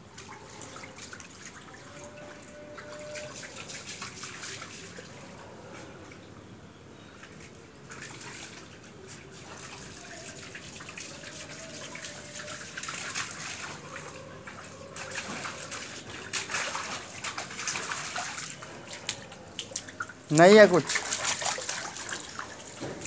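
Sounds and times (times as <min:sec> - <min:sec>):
water splashing and trickling: 0:00.0 - 0:23.0
dog splashing in puddle: 0:00.2 - 0:05.2, 0:07.8 - 0:23.0.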